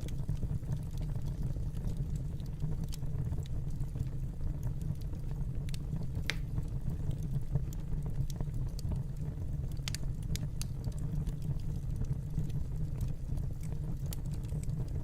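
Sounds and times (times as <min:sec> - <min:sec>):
fire pops and snaps: 0:00.0 - 0:15.0
wood fire crackling: 0:00.0 - 0:15.0.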